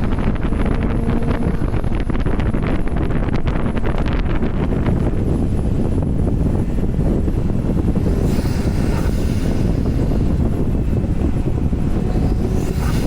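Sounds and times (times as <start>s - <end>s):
car engine and tyres droning: 0.0s - 13.0s
wind buffeting microphone: 0.0s - 13.0s.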